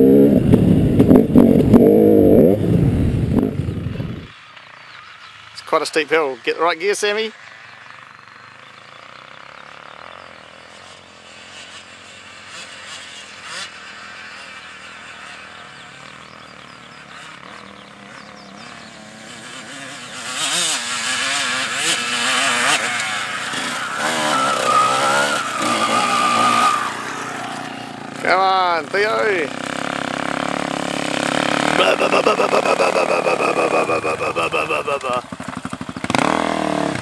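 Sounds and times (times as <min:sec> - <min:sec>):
dirt bike engine revving: 0:00.0 - 0:04.3, 0:07.4 - 0:37.0.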